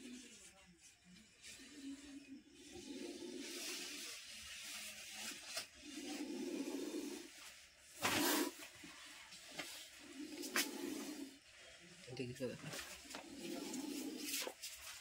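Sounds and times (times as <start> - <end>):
cobra hissing: 1.4 - 12.0, 13.0 - 15.0.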